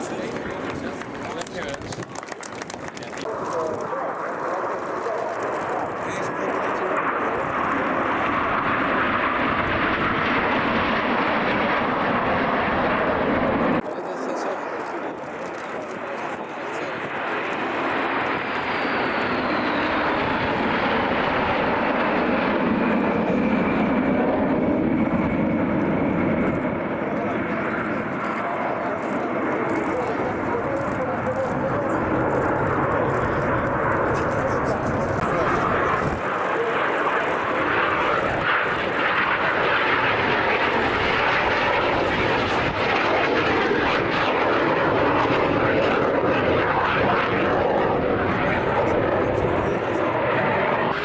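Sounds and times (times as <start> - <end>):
airplane engine in flight: 0.0 - 51.0
plane flying past: 0.0 - 51.0.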